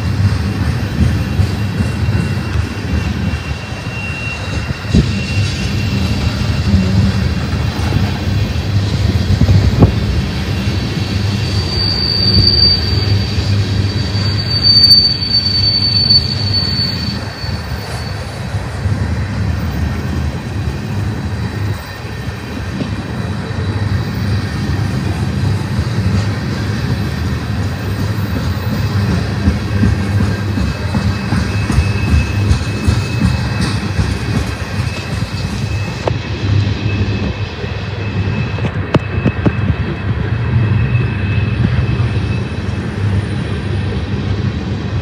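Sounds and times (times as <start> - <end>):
train wheels rumbling on rail: 0.0 - 45.0
high-pitched wheel squeal: 0.4 - 8.4, 10.3 - 19.0, 19.7 - 44.0.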